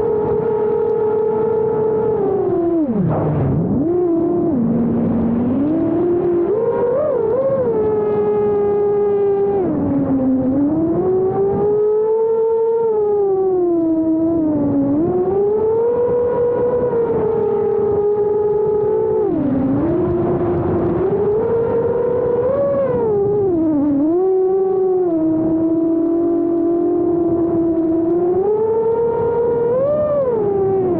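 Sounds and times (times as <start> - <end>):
drone motors whining: 0.0 - 30.9.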